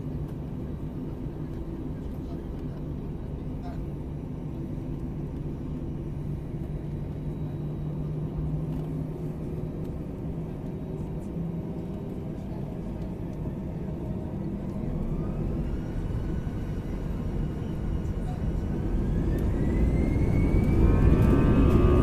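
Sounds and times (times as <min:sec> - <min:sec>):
jet engines rumbling: 0:00.0 - 0:22.0
low hum: 0:00.0 - 0:22.0.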